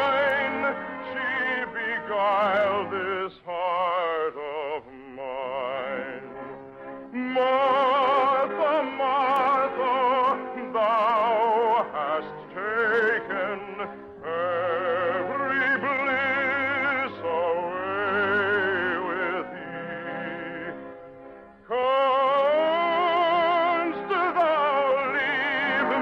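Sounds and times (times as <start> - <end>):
operatic singing: 0.0 - 20.9, 21.6 - 26.0.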